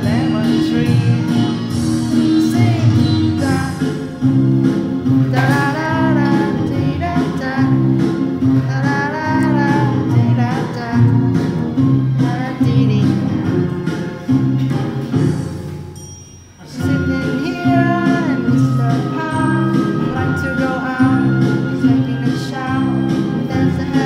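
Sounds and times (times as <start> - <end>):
pop song with guitar and singing: 0.0 - 4.3, 5.2 - 14.2, 16.7 - 24.0.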